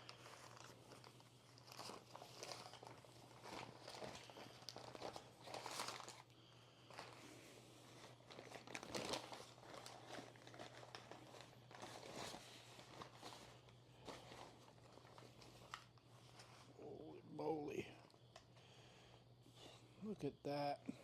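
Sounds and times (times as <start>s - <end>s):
wrapping rustling: 0.0s - 17.0s
faint low hum: 0.0s - 21.0s.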